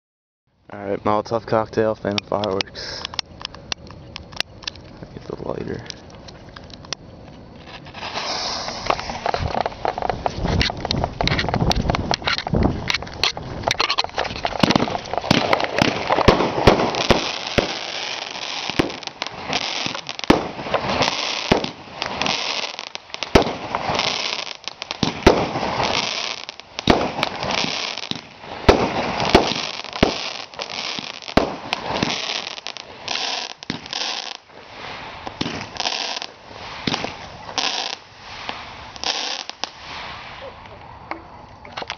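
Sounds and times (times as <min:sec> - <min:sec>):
fireworks crackling and hissing: 0:00.7 - 0:41.9
fireworks launching and bursting: 0:01.1 - 0:41.1.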